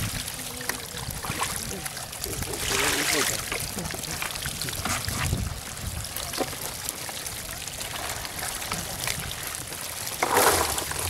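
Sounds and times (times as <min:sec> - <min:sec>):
water pouring into basket: 0:00.0 - 0:11.0.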